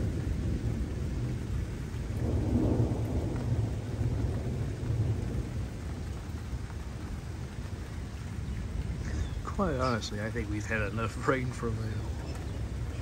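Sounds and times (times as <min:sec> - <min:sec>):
rolling thunder: 0:00.0 - 0:13.0.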